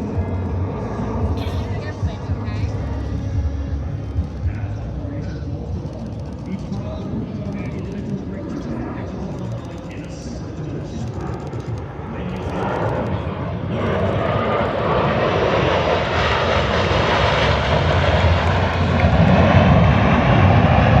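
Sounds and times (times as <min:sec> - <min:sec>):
jet engines roaring past: 0:00.0 - 0:21.0.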